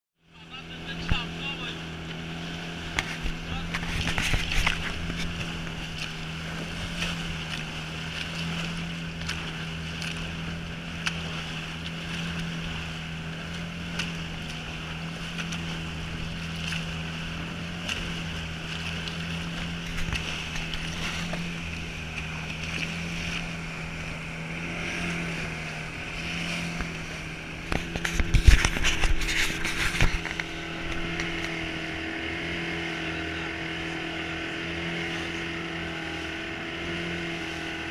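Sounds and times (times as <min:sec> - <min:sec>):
motorboat engine running: 0:00.2 - 0:37.9
water splashing along hull: 0:00.2 - 0:37.9.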